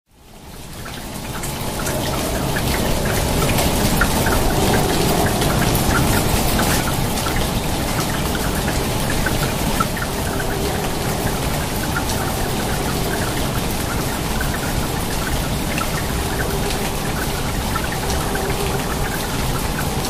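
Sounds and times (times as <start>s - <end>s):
rain splashing onto water: 0.1s - 20.0s.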